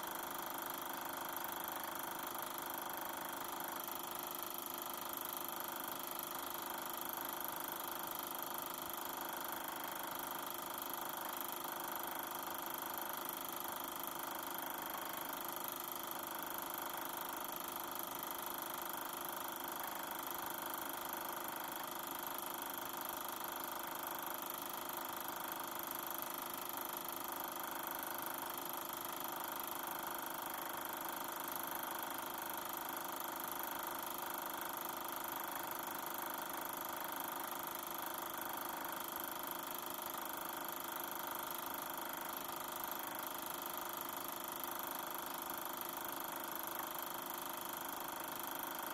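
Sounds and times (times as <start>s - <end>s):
film projector humming: 0.0s - 48.9s.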